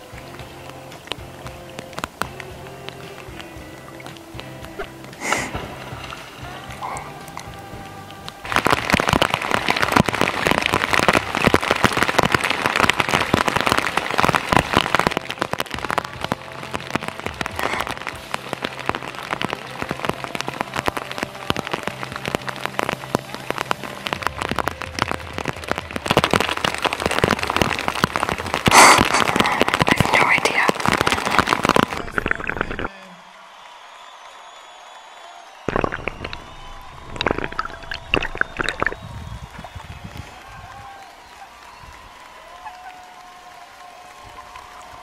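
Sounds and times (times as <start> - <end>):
rain pattering on lake: 0.0 - 34.0, 34.8 - 45.0.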